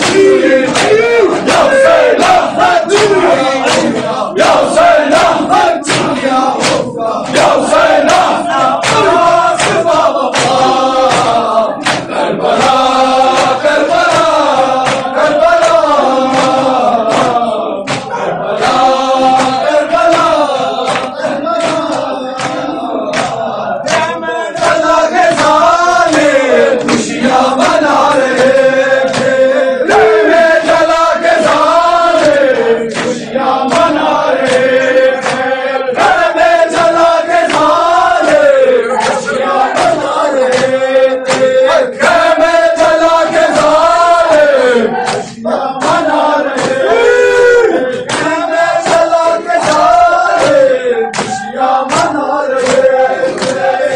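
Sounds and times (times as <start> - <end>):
hands slapping chests: 0.0 - 53.9
men chanting together: 0.0 - 53.9.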